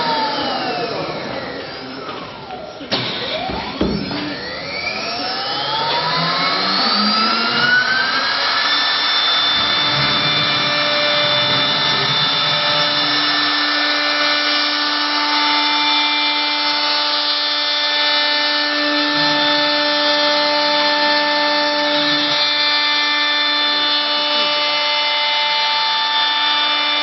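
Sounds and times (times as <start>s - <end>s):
router bit cutting wood: 0.0s - 27.0s
router spindle motor whine: 0.0s - 27.0s.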